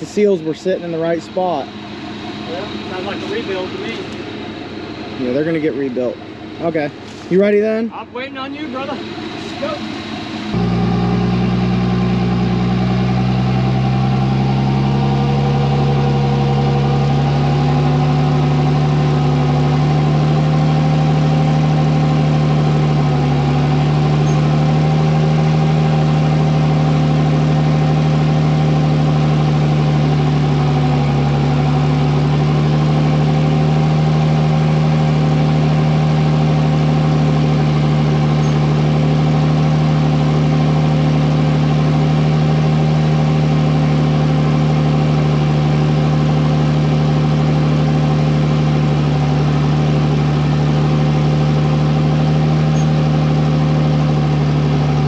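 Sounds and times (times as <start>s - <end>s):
tractor diesel engine idling: 0.0s - 55.0s.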